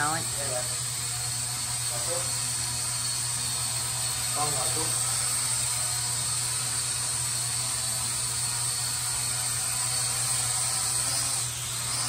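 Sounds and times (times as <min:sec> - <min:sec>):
toy drone buzzing: 0:00.0 - 0:12.0.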